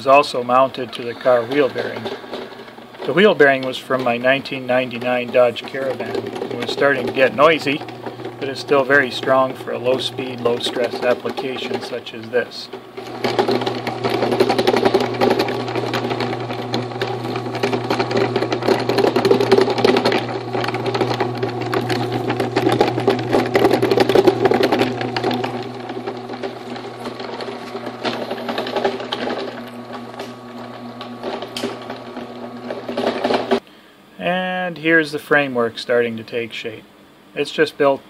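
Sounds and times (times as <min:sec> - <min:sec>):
electric motor humming: 0:00.0 - 0:33.6
gear clattering against rack: 0:00.0 - 0:33.6.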